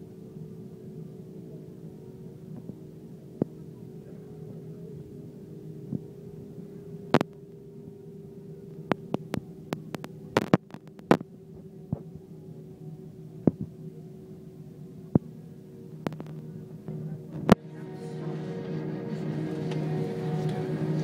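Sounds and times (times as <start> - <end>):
airplane cabin hum: 0.0 - 21.0.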